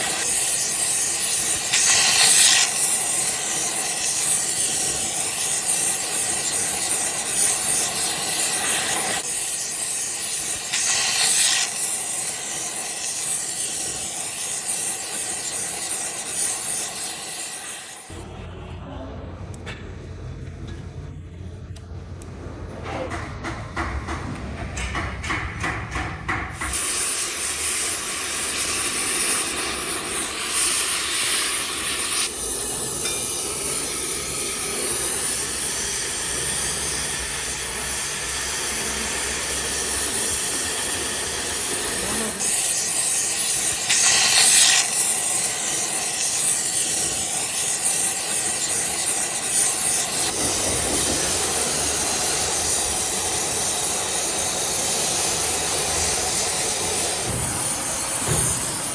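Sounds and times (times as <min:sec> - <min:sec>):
hissing from wheel work: 0:00.0 - 0:18.2, 0:26.4 - 0:58.9.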